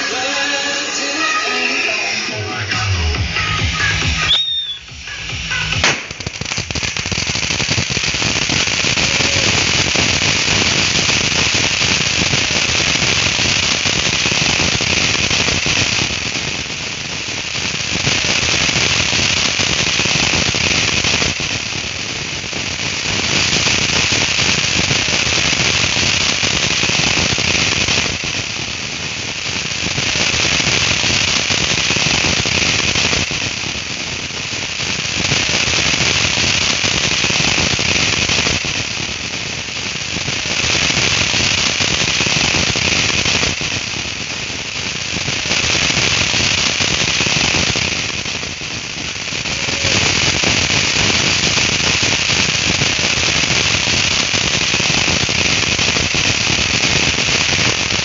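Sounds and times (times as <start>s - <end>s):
fireworks fountains crackling and hissing: 0.0s - 58.0s.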